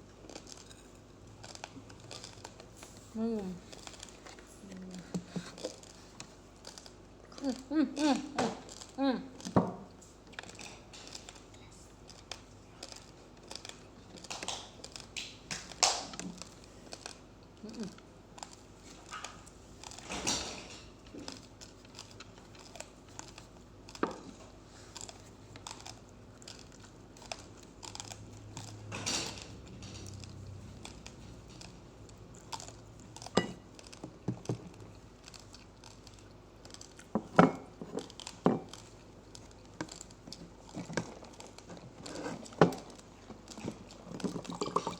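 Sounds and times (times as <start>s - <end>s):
chewing crunchy rice: 0.0s - 44.9s.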